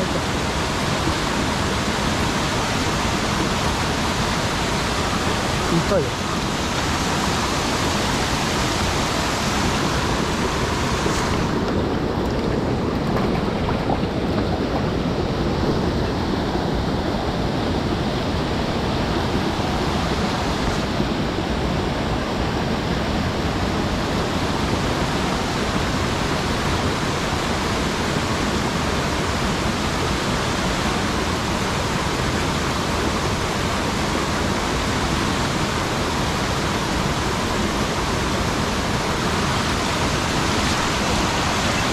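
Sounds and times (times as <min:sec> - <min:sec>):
stream water spilling over dam: 0:00.0 - 0:41.9.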